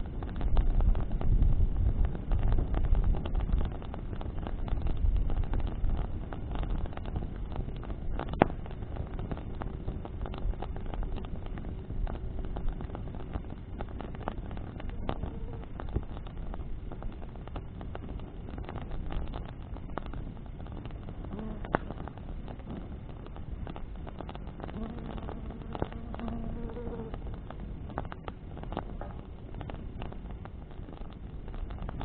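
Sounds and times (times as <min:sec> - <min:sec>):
bonfire crackling and popping: 0:00.0 - 0:32.0.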